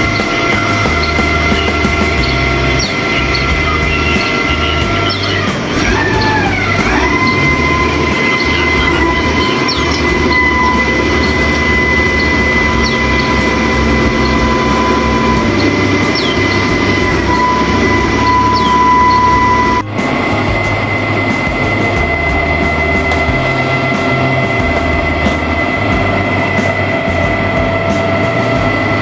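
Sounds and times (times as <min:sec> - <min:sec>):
crane engine rumble: 0:00.0 - 0:29.0
high-pitched engine whine: 0:00.0 - 0:29.0.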